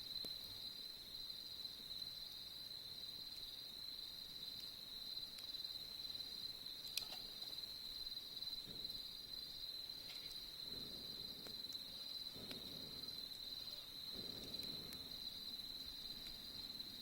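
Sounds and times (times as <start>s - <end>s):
campfire cracks: 0.0s - 17.0s
crickets chirring: 0.0s - 17.0s.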